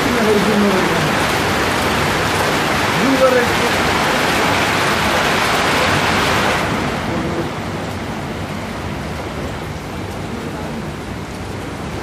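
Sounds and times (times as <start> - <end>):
hail and rain falling hard: 0.0 - 12.0.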